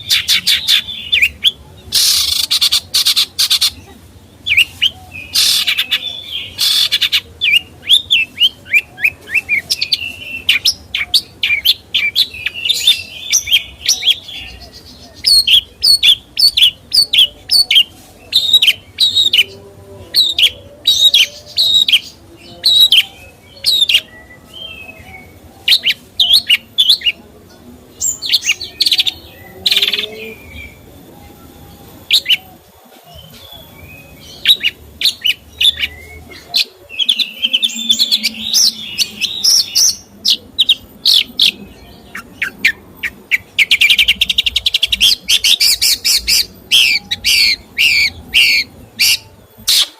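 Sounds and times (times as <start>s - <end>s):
songbird chirping and trilling: 0.0s - 49.9s.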